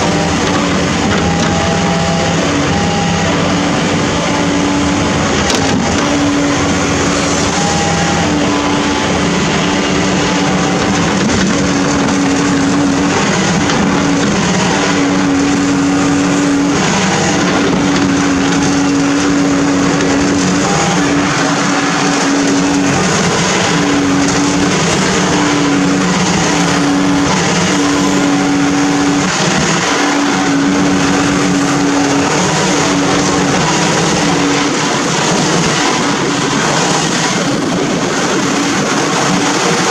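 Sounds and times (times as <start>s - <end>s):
backhoe engine and hydraulics: 0.0s - 39.9s
pitched hydraulic drone: 0.0s - 39.9s.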